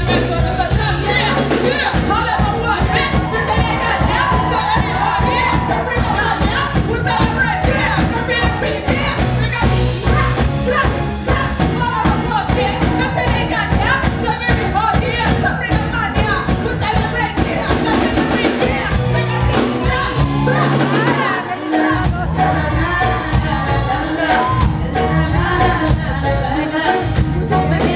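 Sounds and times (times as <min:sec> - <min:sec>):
bass guitar: 0:00.0 - 0:27.9
drum kit: 0:00.0 - 0:27.9
women singing: 0:00.0 - 0:27.9.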